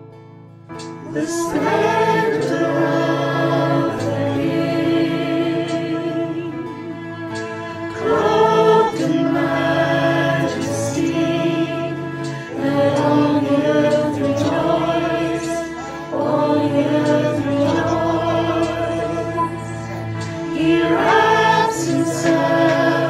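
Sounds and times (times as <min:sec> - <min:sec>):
instrumental accompaniment: 0:00.0 - 0:23.0
choir singing a hymn: 0:01.0 - 0:23.0.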